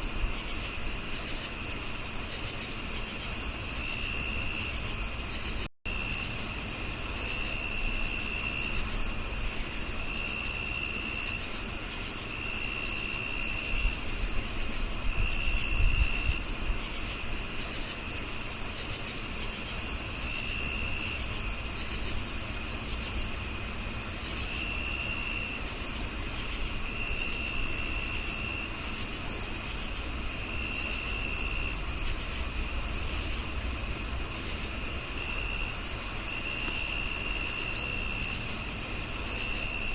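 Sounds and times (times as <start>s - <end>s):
high cricket trill: 0.0s - 39.9s
lower cricket trills: 0.0s - 39.9s.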